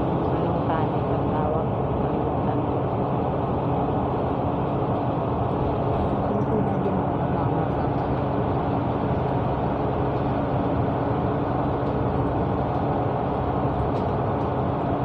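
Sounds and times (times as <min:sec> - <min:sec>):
bus engine and road noise: 0:00.0 - 0:15.0
faint steady hum: 0:00.0 - 0:15.0.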